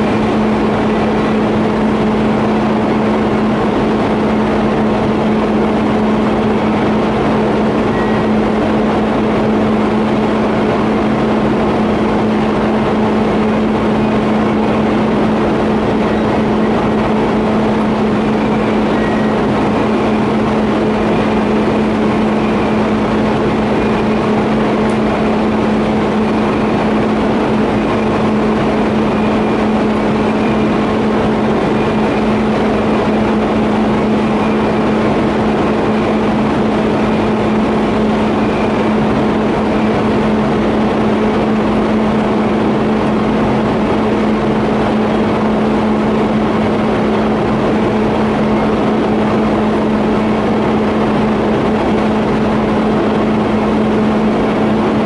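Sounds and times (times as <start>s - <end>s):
welding equipment electrical hum: 0.0s - 55.0s.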